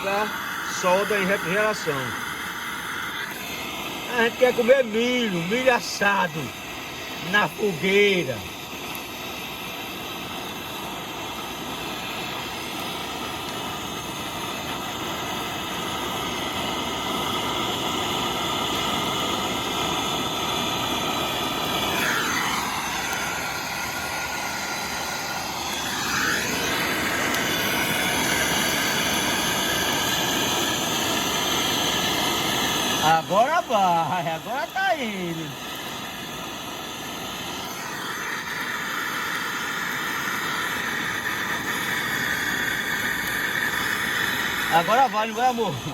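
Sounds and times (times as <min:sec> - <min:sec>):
gas torch roaring hiss: 0:00.0 - 0:45.9.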